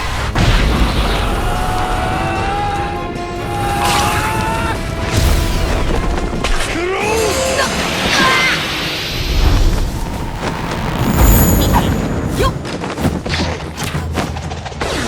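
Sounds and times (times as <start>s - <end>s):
heavy booms and crashes: 0.0s - 13.8s.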